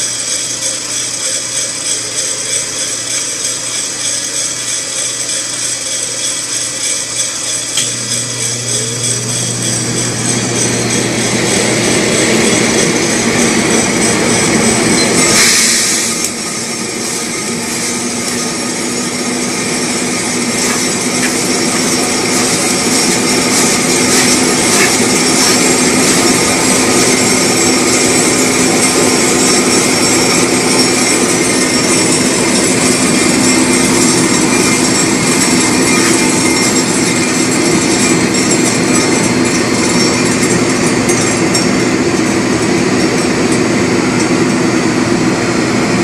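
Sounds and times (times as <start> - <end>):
coffee beans rattling in tray: 0.0 - 44.4
coffee roaster whirring: 0.0 - 46.0.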